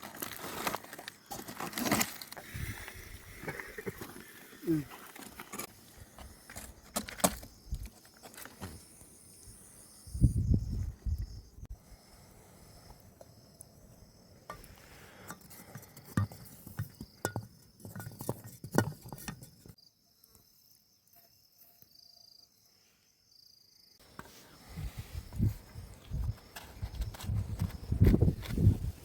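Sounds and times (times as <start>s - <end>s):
insects trilling: 0.1s - 18.7s, 19.4s - 28.5s.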